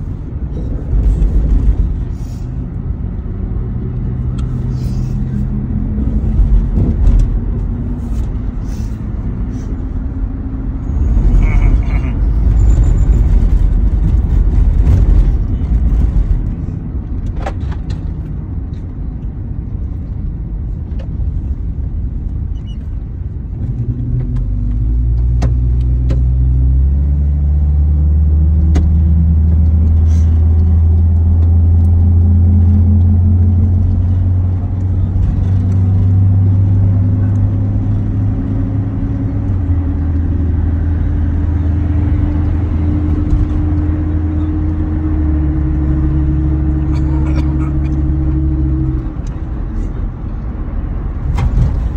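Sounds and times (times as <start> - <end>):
road noise: 0.0 - 51.9
van engine drone: 0.0 - 51.9.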